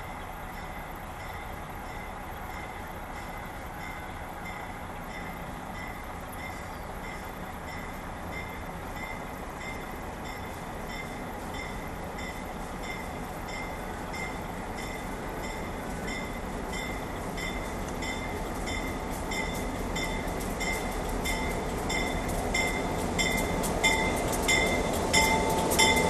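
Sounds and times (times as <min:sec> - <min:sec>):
diesel locomotive rumbling: 0:00.0 - 0:26.0
railway warning bell dinging: 0:00.0 - 0:26.0.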